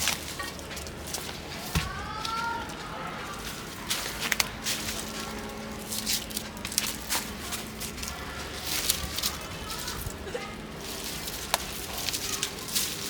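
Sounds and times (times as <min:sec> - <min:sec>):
leafy vines rustling and crackling: 0:00.0 - 0:13.0.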